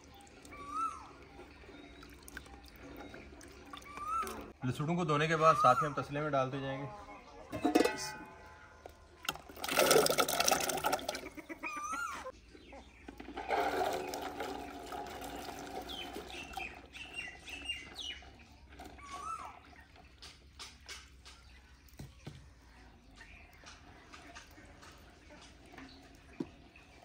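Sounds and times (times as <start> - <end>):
water splashing and sloshing: 0.0 - 4.6, 7.4 - 27.0
birds chirping: 0.0 - 27.0.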